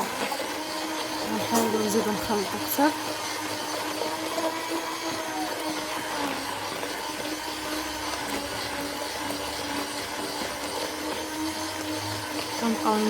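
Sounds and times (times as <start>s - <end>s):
electric hand mixer whipping batter: 0.0s - 13.0s.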